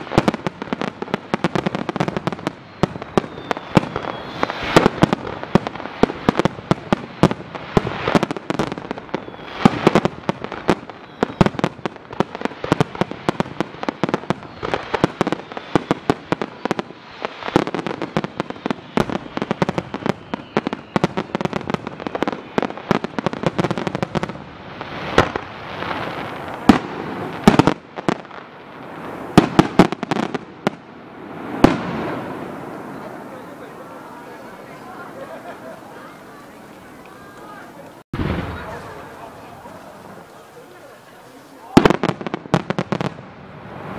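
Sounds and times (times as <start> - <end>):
fireworks bangs and crackling: 0.0 - 43.9.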